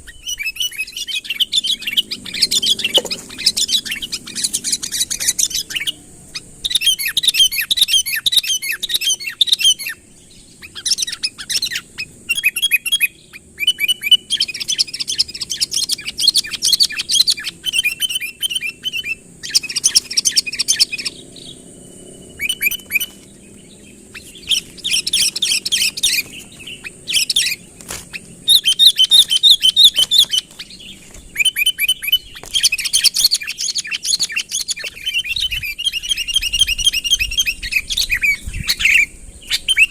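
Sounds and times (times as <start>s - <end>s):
bird singing bubbling chirps: 0.0s - 39.9s.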